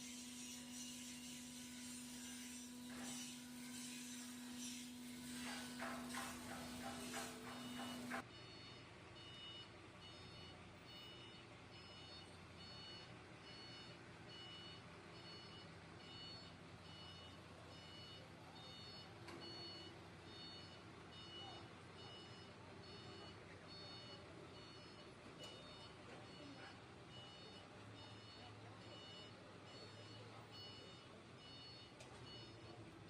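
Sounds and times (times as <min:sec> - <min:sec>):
reversing alarm beeping: 0:00.1 - 0:32.8.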